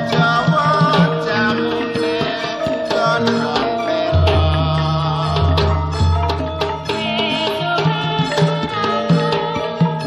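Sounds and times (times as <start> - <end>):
hand drum strokes: 0.0 - 10.0
ringing bronze metallophones: 0.0 - 10.0.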